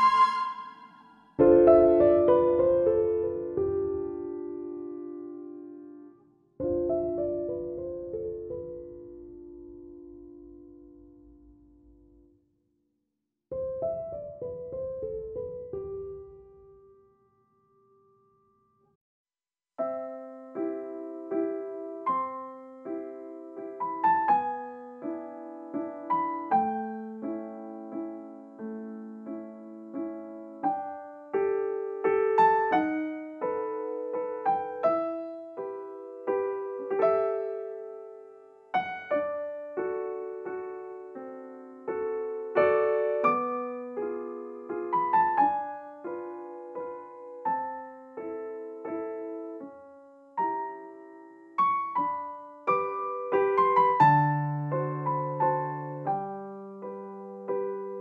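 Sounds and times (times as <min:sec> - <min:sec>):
slow piano piece: 0:00.0 - 0:12.4, 0:13.5 - 0:18.4, 0:19.8 - 0:58.0.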